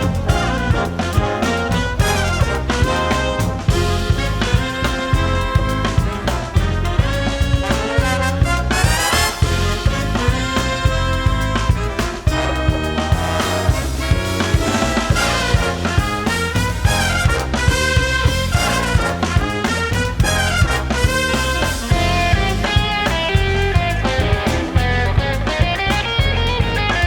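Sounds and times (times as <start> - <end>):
big band playing swing: 0.0 - 27.0.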